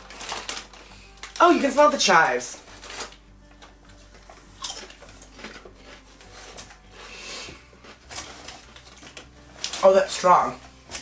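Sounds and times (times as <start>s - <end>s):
chip bag crinkling: 0.0s - 11.0s
chips crunching: 0.0s - 11.0s.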